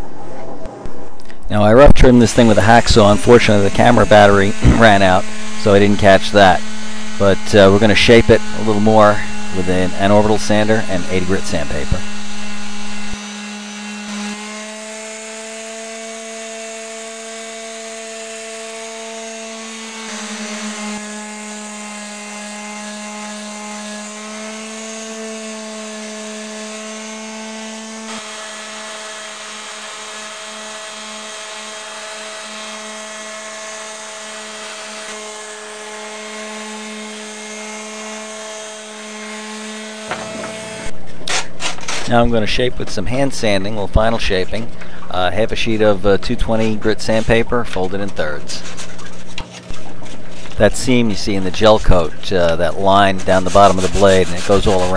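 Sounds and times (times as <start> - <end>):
electric orbital sander running: 1.7 - 54.9.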